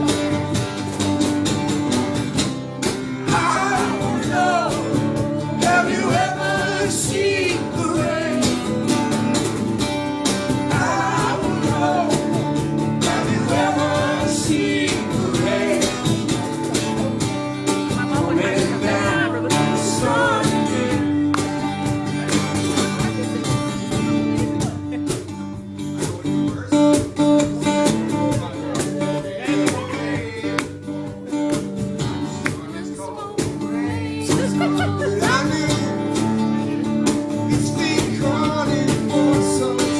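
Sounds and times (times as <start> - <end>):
country-rock band music: 0.0 - 39.9.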